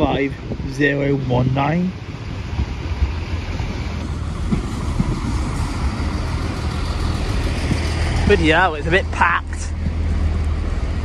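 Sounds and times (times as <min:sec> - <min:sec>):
diesel train engine rumble: 0:00.0 - 0:11.0.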